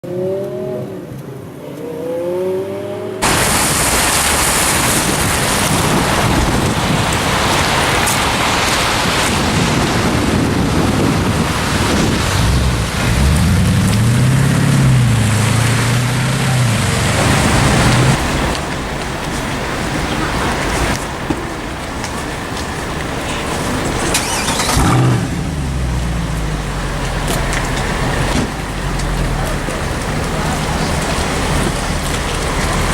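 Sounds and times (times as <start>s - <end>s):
street traffic: 0.0s - 32.9s
loud steady rush of noise: 0.8s - 32.9s
car engine accelerating: 1.6s - 32.9s.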